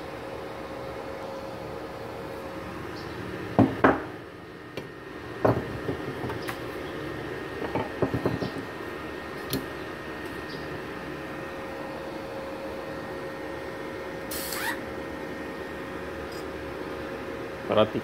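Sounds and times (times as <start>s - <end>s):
welding machine humming: 0.0s - 18.0s.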